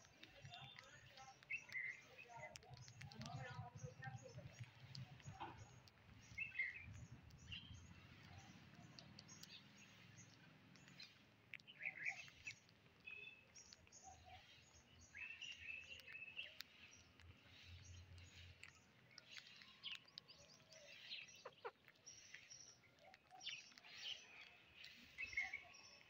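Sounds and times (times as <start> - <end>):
faint light clicks: 0.0 - 25.6
faint bird chirps: 0.3 - 26.0.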